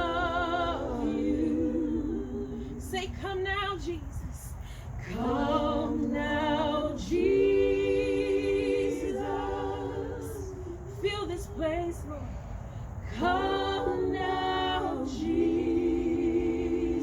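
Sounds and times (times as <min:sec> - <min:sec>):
voices singing worship song: 0:00.0 - 0:17.0.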